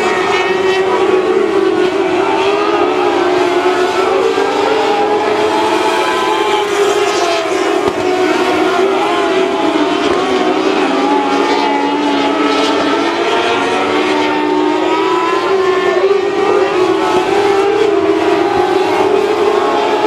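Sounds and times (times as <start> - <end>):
race car engines running: 0.0 - 20.0.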